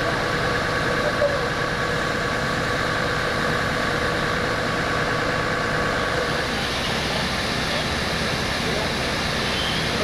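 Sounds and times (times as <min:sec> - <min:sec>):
engine droning with whine: 0:00.0 - 0:10.0.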